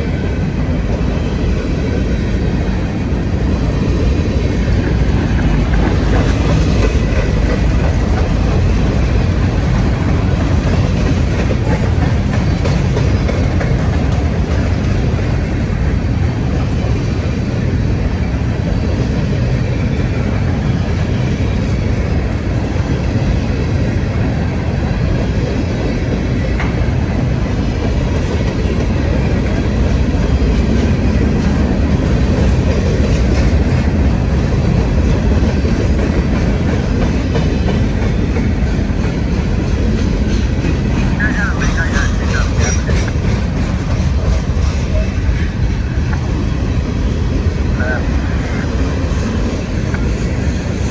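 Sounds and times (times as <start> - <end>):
freight train wheels rumbling: 0.0 - 50.9.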